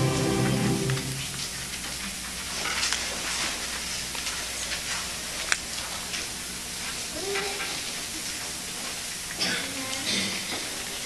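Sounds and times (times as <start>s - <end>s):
rustles of performers shifting: 0.0s - 9.2s
steady hiss: 0.0s - 11.0s.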